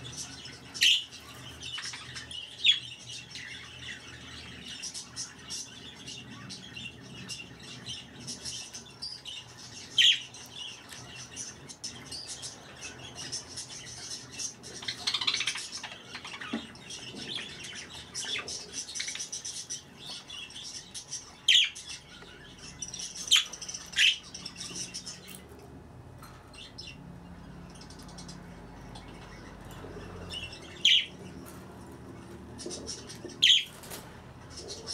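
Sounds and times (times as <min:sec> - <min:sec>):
budgerigars chattering and warbling: 0:00.0 - 0:34.9.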